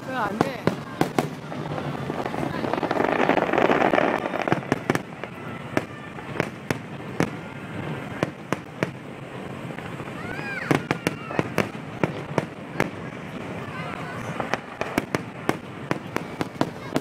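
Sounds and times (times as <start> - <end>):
firework whistle: 0.0 - 17.0
fireworks bursting: 0.0 - 17.0.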